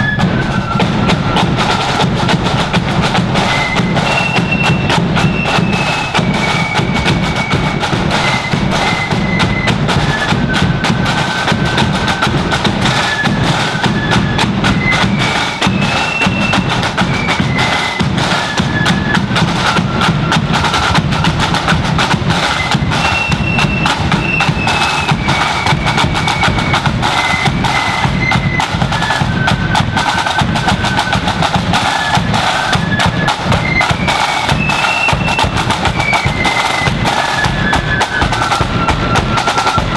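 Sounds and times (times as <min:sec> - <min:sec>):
flutes playing melody: 0:00.0 - 0:39.9
snare drumming with rolls: 0:00.0 - 0:39.9.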